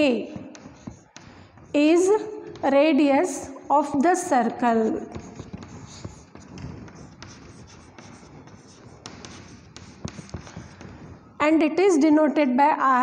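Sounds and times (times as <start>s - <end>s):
chalk tapping on board: 0.0s - 2.9s, 3.8s - 11.4s
chalk scratching on chalkboard: 0.0s - 11.4s.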